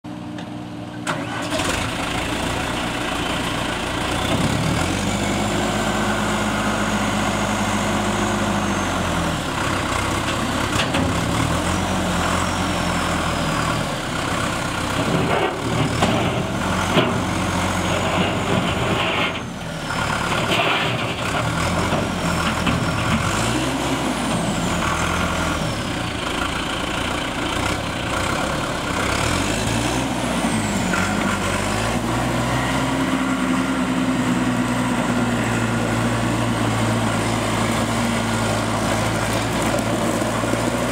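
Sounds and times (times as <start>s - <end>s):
tractor diesel engine revving: 1.1s - 40.9s.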